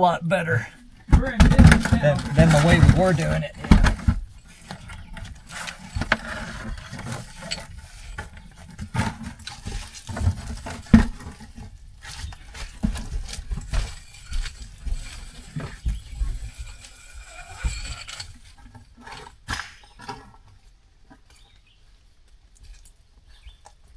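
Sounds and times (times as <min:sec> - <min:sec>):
bucket knocking and scraping: 0:00.0 - 0:21.4
rope handling noise: 0:00.8 - 0:23.9.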